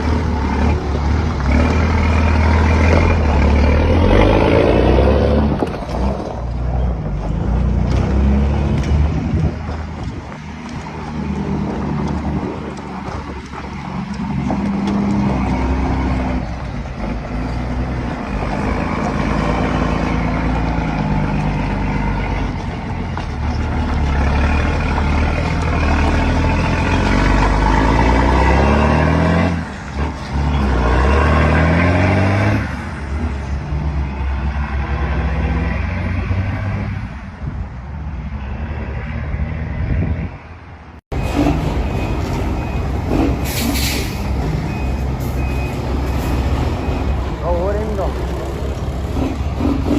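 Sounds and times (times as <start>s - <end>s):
truck diesel engine under load: 0.0s - 49.9s.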